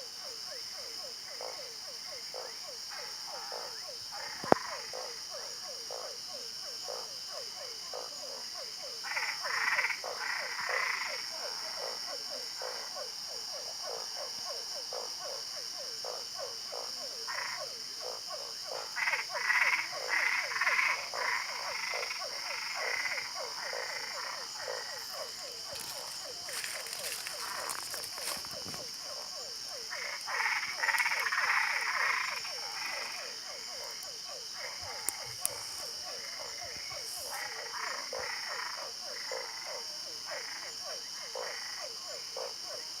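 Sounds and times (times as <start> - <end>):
frogs croaking: 0.0 - 43.0
higher-pitched frog calls: 0.0 - 43.0.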